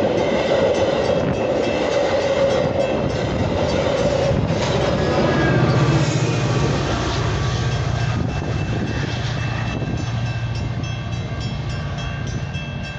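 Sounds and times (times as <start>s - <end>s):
crossing bell ringing: 0.0s - 12.9s
diesel locomotive engine drone: 0.0s - 12.9s.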